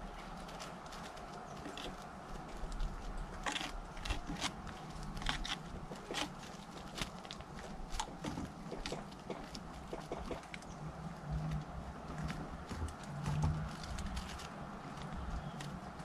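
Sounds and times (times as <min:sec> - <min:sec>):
woodpecker scraping: 0:00.0 - 0:16.0
woodpecker tapping: 0:01.2 - 0:16.0.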